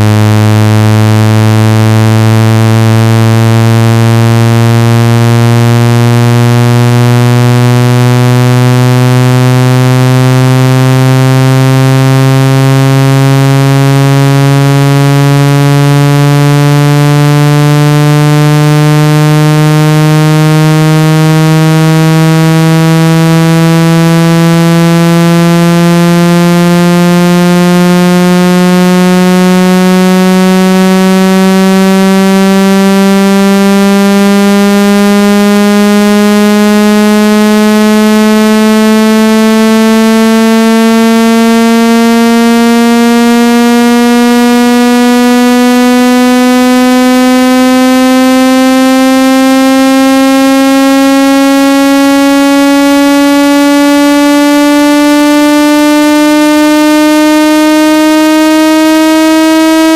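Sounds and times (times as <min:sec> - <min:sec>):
buzzy synthetic rising tone: 0:00.0 - 0:59.9.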